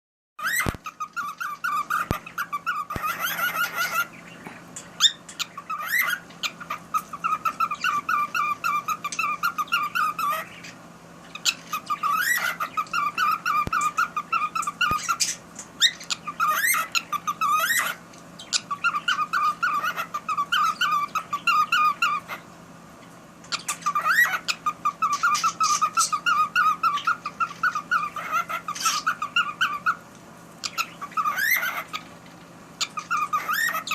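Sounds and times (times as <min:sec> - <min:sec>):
cockatiel chattering: 0:00.4 - 0:22.5, 0:23.4 - 0:30.0, 0:30.6 - 0:32.2, 0:32.8 - 0:33.9.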